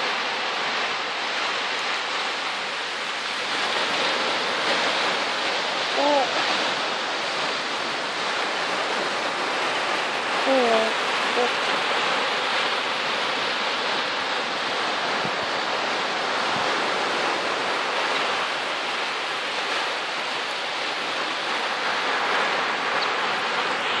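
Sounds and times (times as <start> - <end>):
ocean surf hissing: 0.0 - 24.0.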